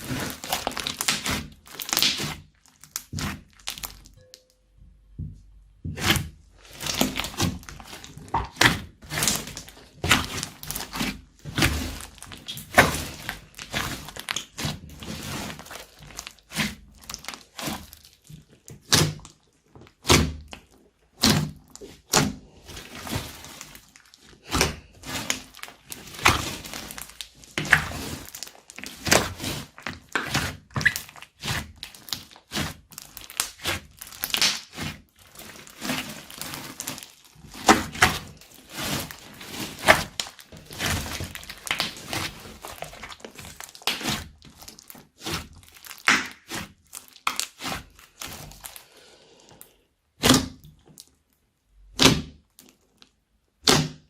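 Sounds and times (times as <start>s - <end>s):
slime squished by hand: 0.0s - 4.4s, 5.8s - 49.0s, 49.6s - 54.0s.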